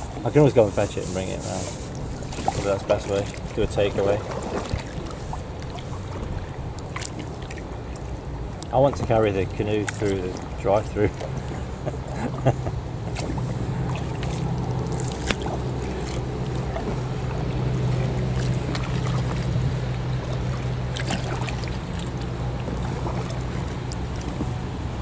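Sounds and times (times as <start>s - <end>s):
kayak paddle splashing: 0.0s - 25.0s
steady low rumble: 0.0s - 25.0s.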